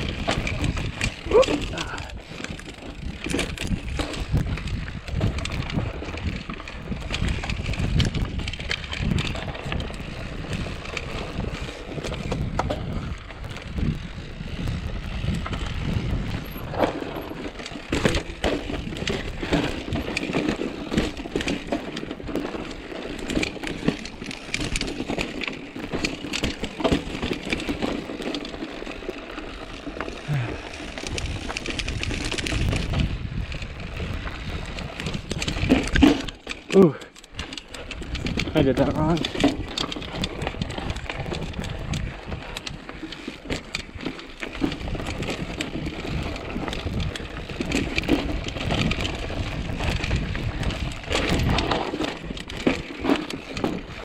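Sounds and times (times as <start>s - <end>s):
bike tyres on dirt trail: 0.0s - 54.0s
wheels knocking on rocks: 0.0s - 54.0s.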